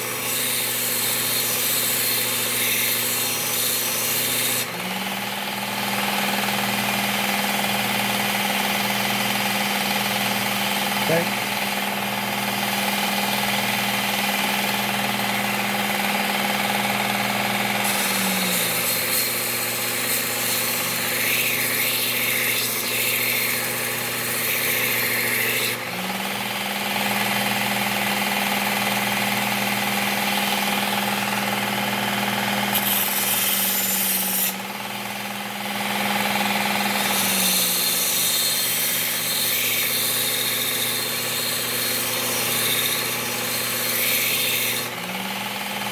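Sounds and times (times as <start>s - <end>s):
steel grinding on abrasive belt: 0.0s - 11.8s, 12.4s - 25.8s, 26.4s - 34.8s, 35.9s - 45.0s
belt sharpener motor hum: 0.0s - 45.9s.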